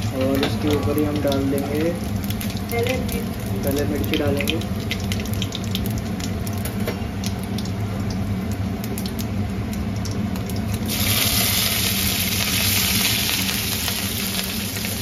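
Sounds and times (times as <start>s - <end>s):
loud sizzle of chillies in oil: 0.0s - 15.0s
spices crackling in hot oil: 0.0s - 15.0s.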